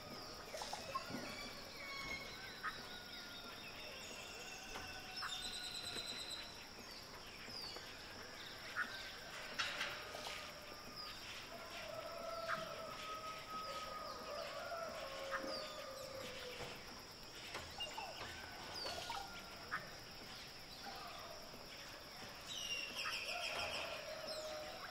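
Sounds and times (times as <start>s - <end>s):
birds calling: 0.0s - 24.9s
steady high-pitched hiss: 0.0s - 24.9s.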